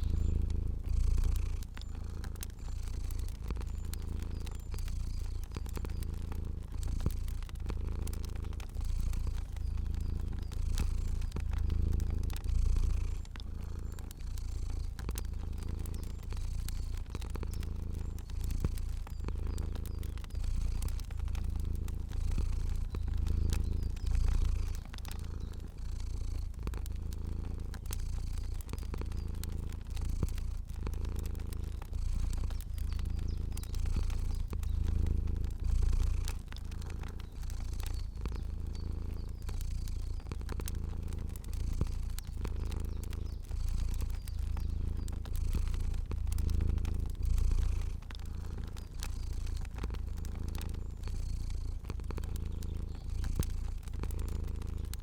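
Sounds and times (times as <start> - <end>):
cat purring: 0.0 - 55.0
fire crackling: 0.0 - 55.0.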